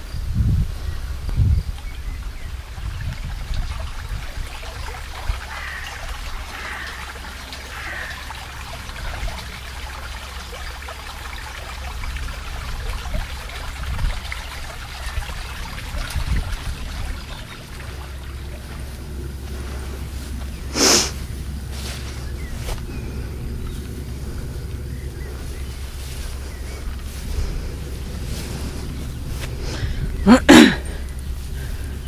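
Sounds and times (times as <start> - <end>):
brook babbling over rocks: 1.8 - 32.0.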